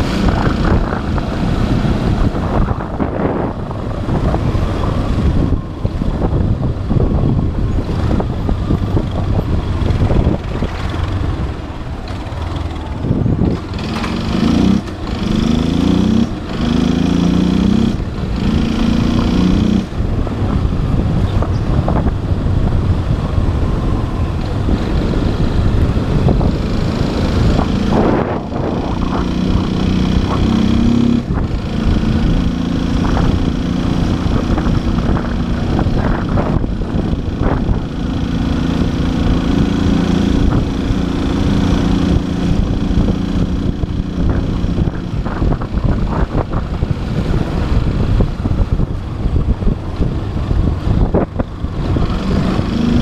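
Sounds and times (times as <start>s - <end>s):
motorcycle engine shifting gears: 0.0s - 53.0s
wind noise on microphone: 0.0s - 53.0s.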